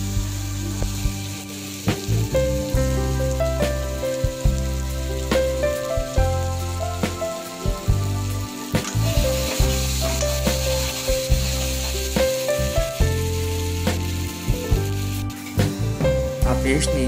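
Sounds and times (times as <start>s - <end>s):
background music with bass: 0.0s - 17.0s
food sizzling in hot oil: 0.0s - 17.0s.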